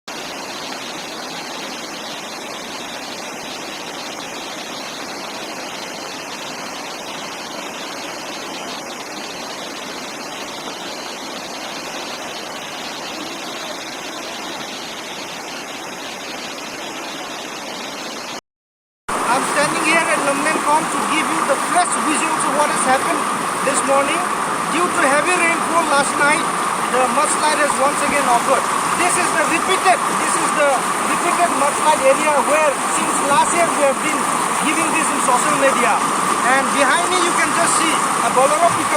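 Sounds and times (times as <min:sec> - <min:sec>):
rush of water: 0:00.1 - 0:18.4, 0:19.1 - 0:38.9.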